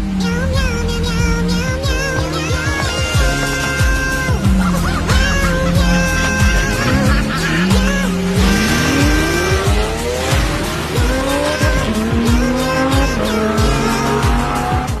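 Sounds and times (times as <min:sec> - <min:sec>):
music with thumping beat: 0:00.0 - 0:15.0.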